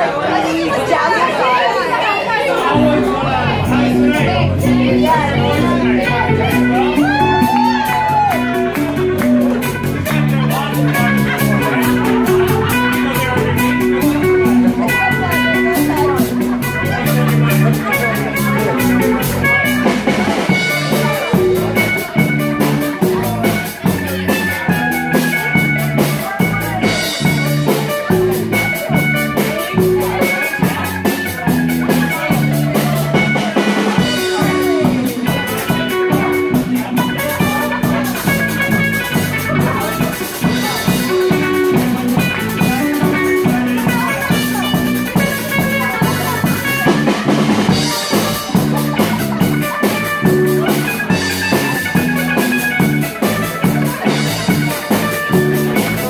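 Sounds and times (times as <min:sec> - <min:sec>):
electric guitar melody: 0:02.3 - 0:56.0
drum kit: 0:02.7 - 0:56.0
electric bass: 0:02.7 - 0:56.0.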